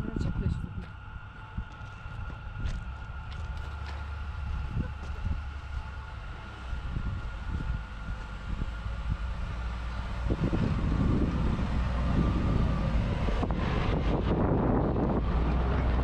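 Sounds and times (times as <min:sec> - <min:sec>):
suv engine driving: 0:00.0 - 0:16.0.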